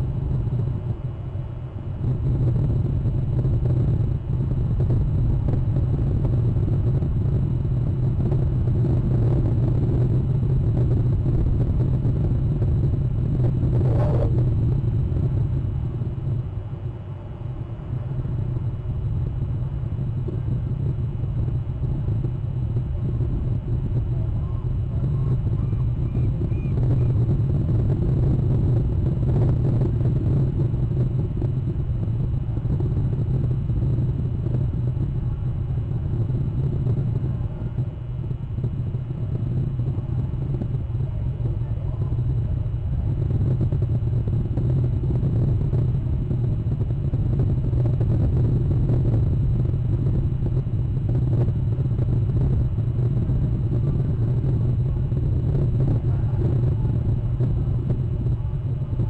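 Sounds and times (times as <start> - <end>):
low outdoor rumble: 0.0 - 59.0.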